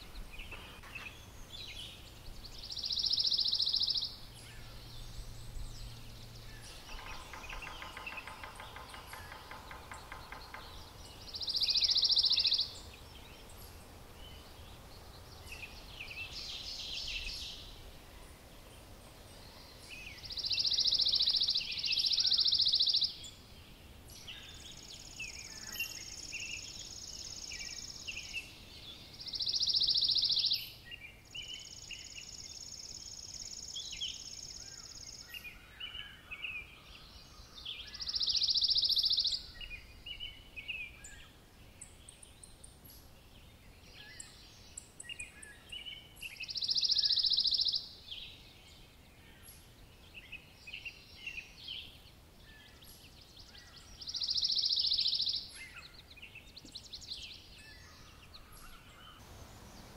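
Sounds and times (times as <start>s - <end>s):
buzzy birdsong: 0.0s - 59.9s
soft bird chirps: 0.0s - 59.9s.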